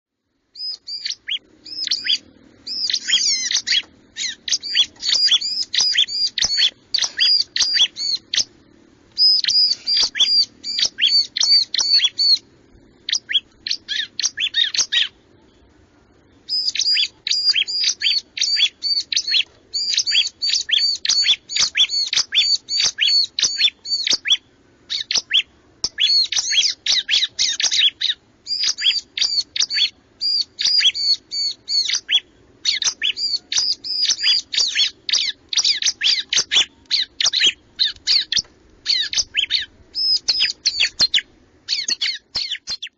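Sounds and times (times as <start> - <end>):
bird chirping song: 0.1 - 42.9
faint low hum: 0.1 - 42.9.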